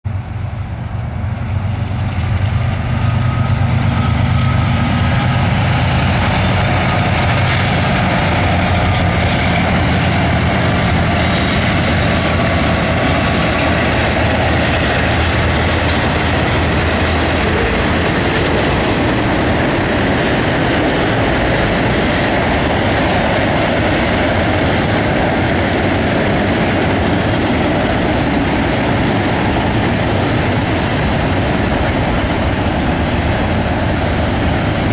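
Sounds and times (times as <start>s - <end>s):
locomotive engine hum: 0.1s - 34.9s
train wheels rolling on rails: 0.1s - 34.9s.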